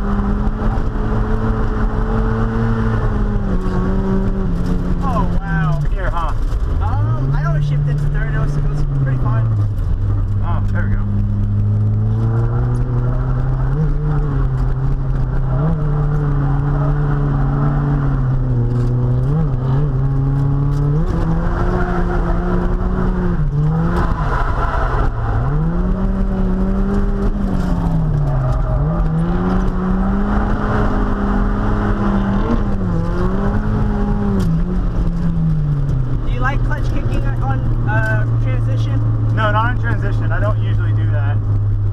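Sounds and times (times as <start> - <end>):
tyre and wind noise: 0.0 - 40.1
car engine revving high: 0.0 - 41.9.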